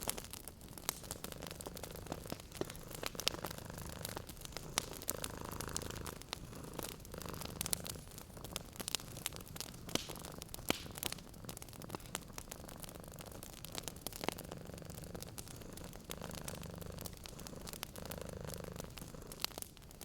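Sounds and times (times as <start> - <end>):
cat purring: 0.0 - 20.0
wood fire crackling: 0.0 - 20.0.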